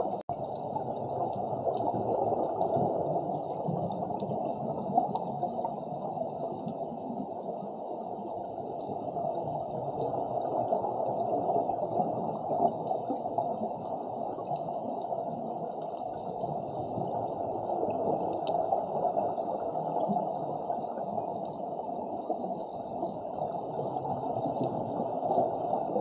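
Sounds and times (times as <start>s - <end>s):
gurgling bubbles: 0.0s - 26.0s
muffled underwater rush: 0.0s - 26.0s.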